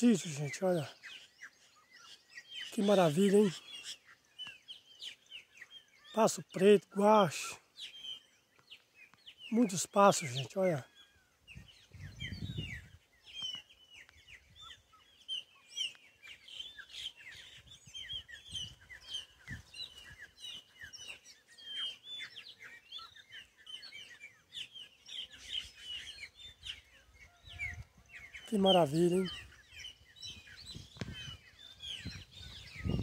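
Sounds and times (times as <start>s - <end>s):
birds chirping and whistling: 0.0s - 33.0s.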